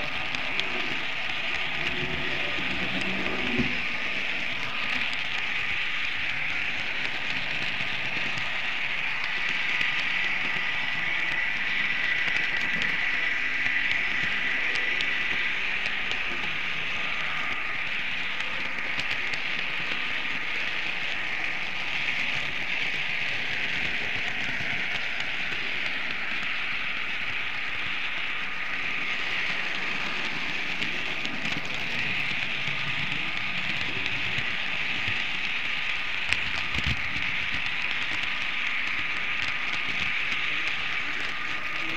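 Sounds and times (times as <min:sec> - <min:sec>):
model train wheels rattling on rails: 0:00.0 - 0:41.9.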